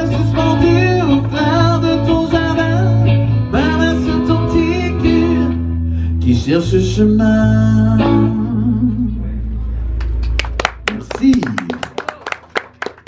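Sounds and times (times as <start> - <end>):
steady bass line: 0.0 - 11.4
guitar: 0.0 - 11.8.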